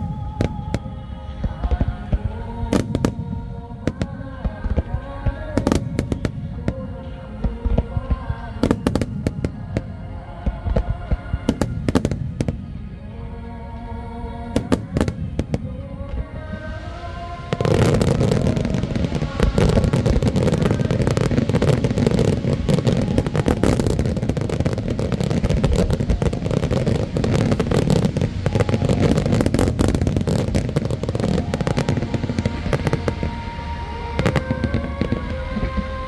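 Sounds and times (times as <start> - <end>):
fireworks bursts and booms: 0.0 - 12.9, 14.6 - 36.0.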